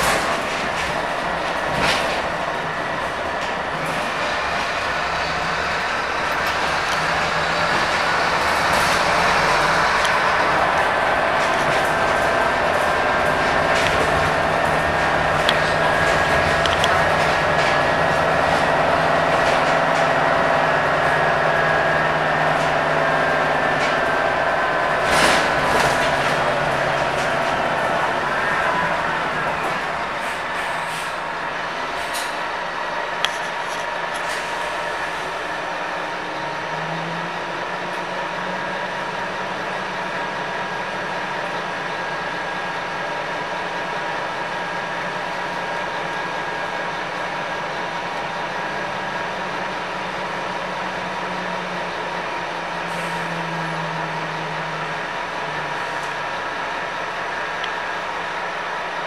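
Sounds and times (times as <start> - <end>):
bus engine and whine: 0.0 - 59.0
road noise: 0.0 - 59.0.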